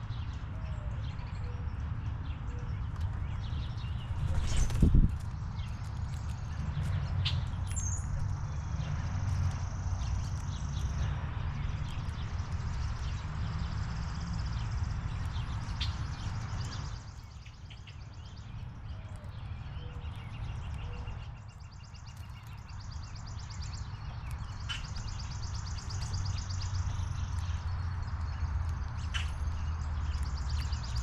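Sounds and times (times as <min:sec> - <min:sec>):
songbirds chirping and trilling: 0:00.0 - 0:31.0.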